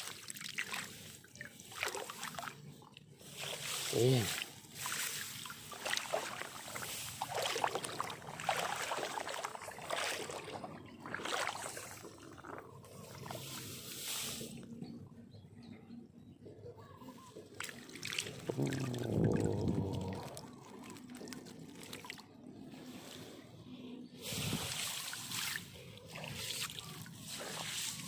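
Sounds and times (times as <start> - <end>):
water sloshing and splashing: 0.0 - 14.7, 17.3 - 23.4, 24.2 - 28.0.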